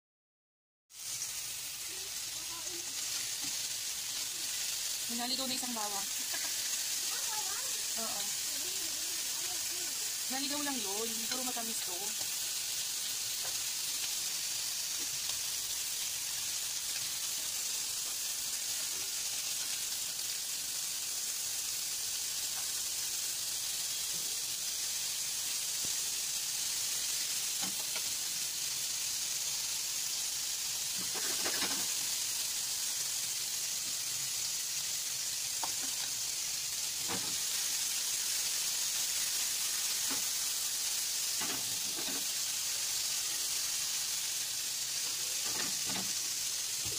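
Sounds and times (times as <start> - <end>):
sausages sizzling in oil: 0.9 - 46.9.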